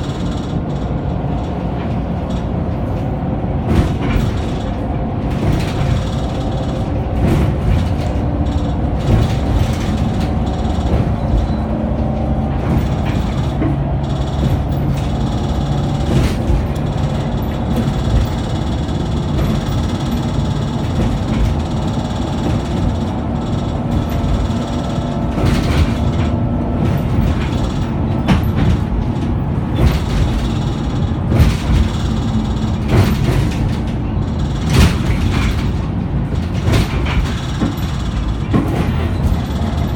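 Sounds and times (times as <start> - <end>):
bus body rattling and knocking: 0.0 - 39.9
bus engine running: 0.0 - 39.9.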